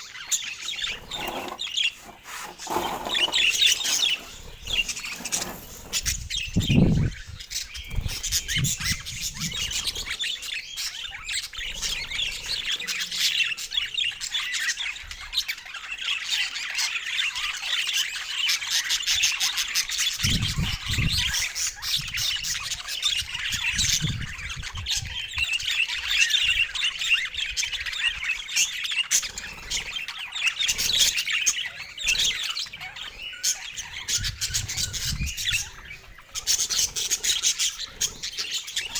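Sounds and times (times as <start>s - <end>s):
budgies chattering and chirping: 0.0s - 38.9s.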